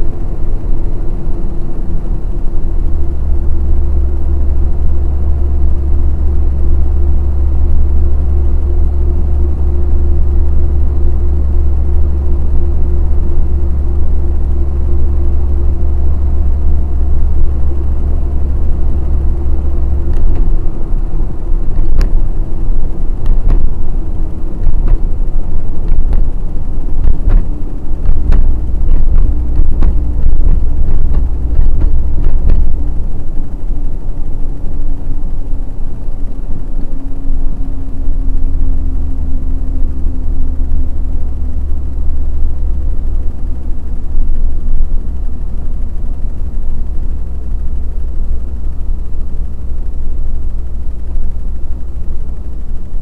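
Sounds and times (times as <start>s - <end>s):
faint drifting hum: 0.0s - 53.0s
truck engine and road rumble: 0.0s - 53.0s.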